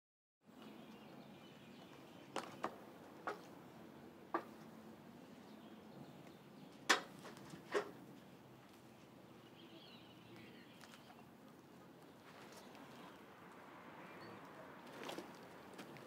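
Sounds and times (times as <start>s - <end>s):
faint outdoor ambience: 0.4s - 16.0s.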